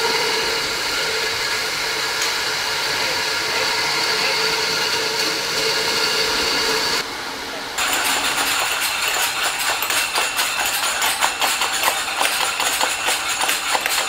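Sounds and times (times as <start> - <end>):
conveyor line mechanical whir: 0.0 - 14.0
high machine whine: 0.0 - 14.0.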